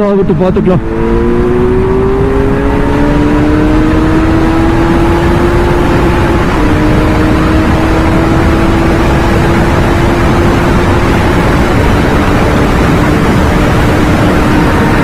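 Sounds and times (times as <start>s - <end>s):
motorcycle engine accelerating: 0.0s - 15.0s
wind rush on microphone: 0.0s - 15.0s.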